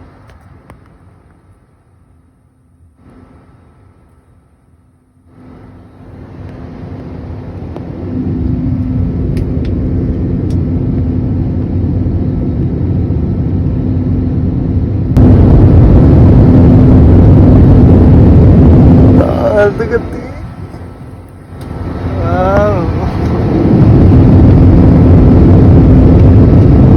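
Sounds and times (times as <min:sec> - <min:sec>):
jet engines roaring in cabin: 0:00.0 - 0:26.9.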